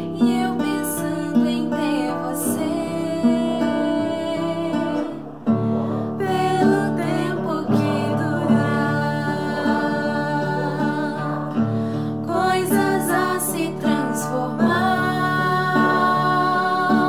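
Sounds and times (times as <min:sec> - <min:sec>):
acoustic guitar: 0:00.0 - 0:17.0
women singing: 0:00.0 - 0:17.0.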